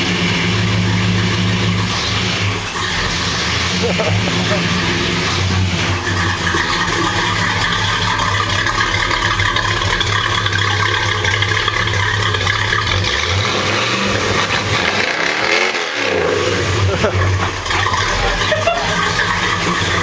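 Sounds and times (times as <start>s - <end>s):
car engine running loud: 0.0s - 20.0s.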